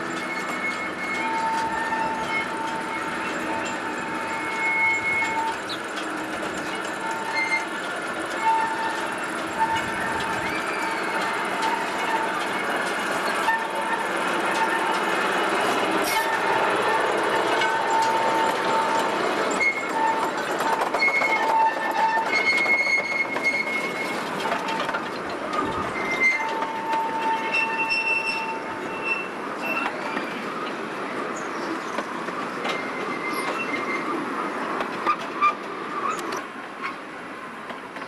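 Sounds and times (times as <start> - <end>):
train wheels squealing: 0.0 - 37.1
train cars rolling rumble: 0.0 - 38.0.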